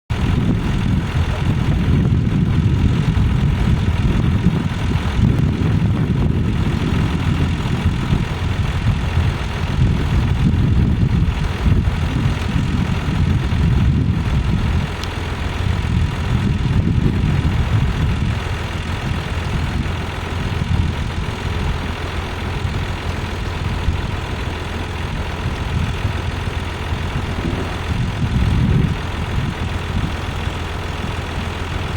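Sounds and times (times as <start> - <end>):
tractor engine droning: 0.1 - 31.9.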